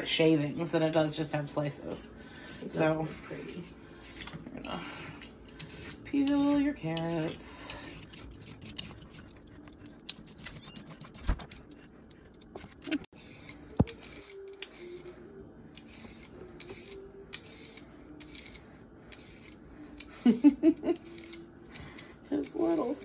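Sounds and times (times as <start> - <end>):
peeler scraping carrot: 2.6 - 23.0.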